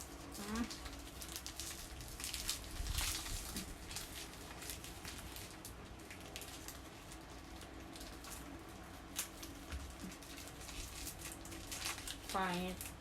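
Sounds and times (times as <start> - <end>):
parcel wrapping rustling: 0.0 - 13.0.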